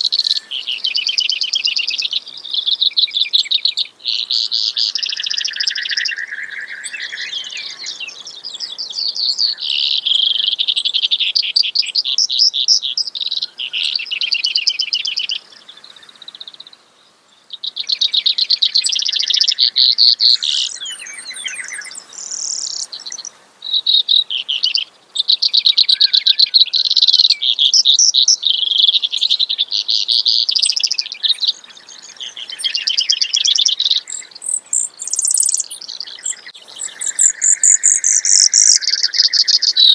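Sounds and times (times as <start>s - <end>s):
sparrow singing trills: 0.0s - 16.8s, 17.4s - 39.9s.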